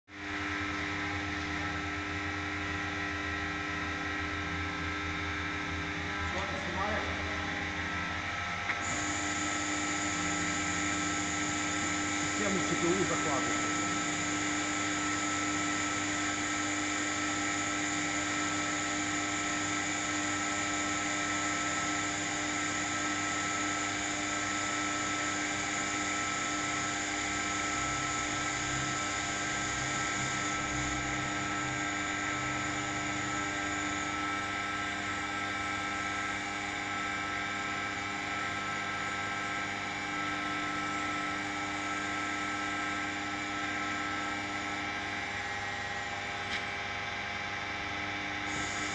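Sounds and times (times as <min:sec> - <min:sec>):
lathe whine and hum: 0:00.1 - 0:48.9.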